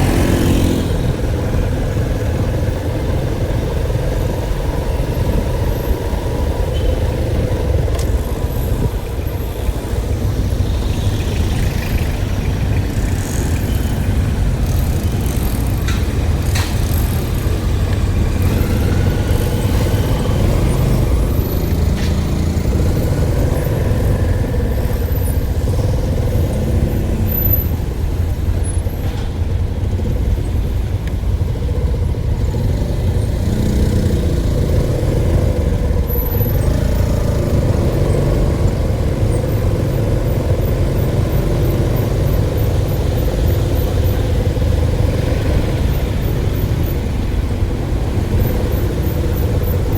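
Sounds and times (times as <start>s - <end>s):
motor vehicle rumbling: 0.0s - 49.9s.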